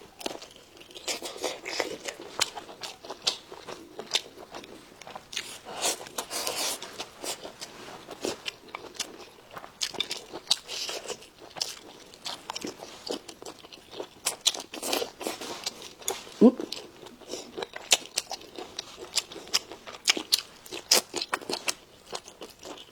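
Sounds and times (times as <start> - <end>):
person chewing food: 0.1 - 22.9.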